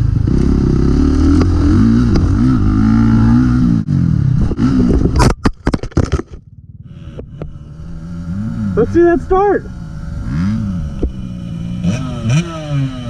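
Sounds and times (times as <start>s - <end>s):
dirt bike engine revving: 0.0s - 5.2s, 6.6s - 13.0s.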